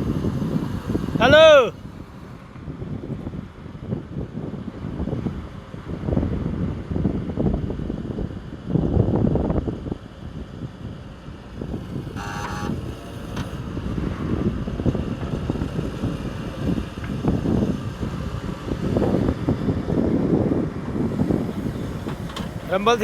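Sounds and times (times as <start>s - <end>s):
vehicle rumbling: 0.0s - 23.0s
wind buffeting microphone: 0.0s - 23.0s.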